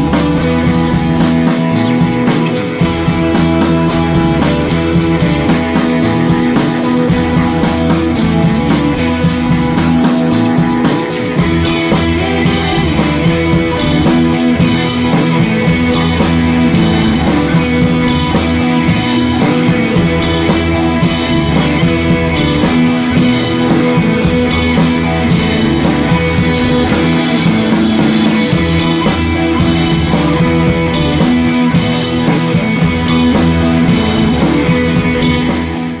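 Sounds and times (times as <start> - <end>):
rock music with guitar and drums: 0.0 - 36.0.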